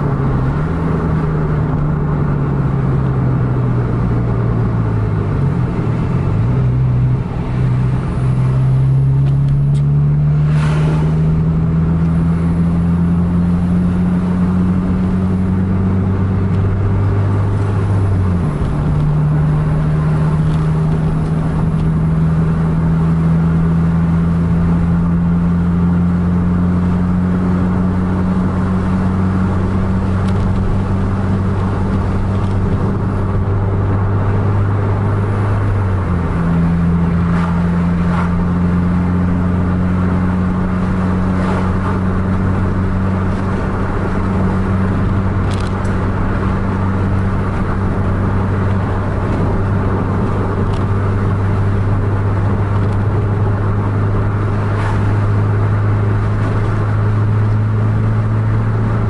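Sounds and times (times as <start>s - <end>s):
tyre and road noise: 0.0s - 59.0s
vehicle engine droning: 0.0s - 59.0s.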